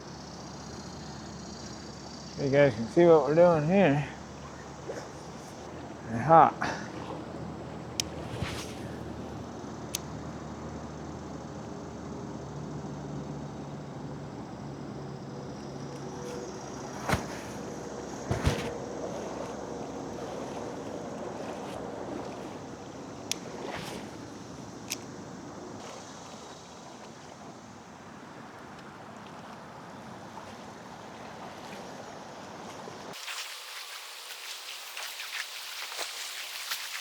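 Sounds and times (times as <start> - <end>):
water noise: 0.0 - 10.4, 14.6 - 37.0
wind: 0.0 - 37.0.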